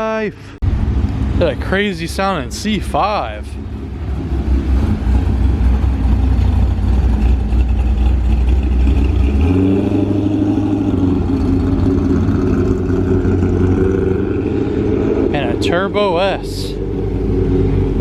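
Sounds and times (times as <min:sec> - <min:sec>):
higher engine tone of passing car: 0:00.6 - 0:18.0
loud car engine driving past: 0:00.6 - 0:18.0.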